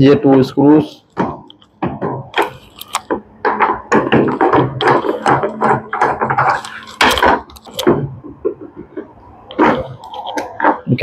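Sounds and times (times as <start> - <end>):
hard plastic clattering and knocking: 1.1 - 10.9.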